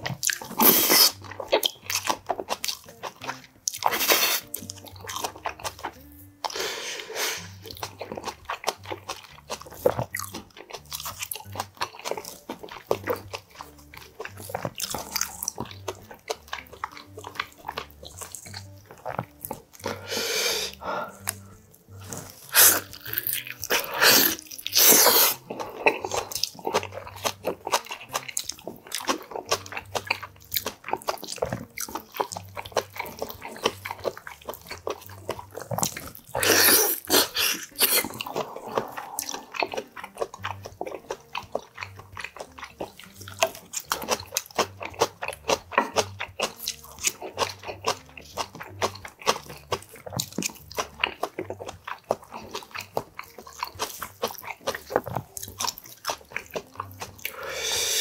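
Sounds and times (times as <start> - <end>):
person chewing meat: 0.0 - 58.0.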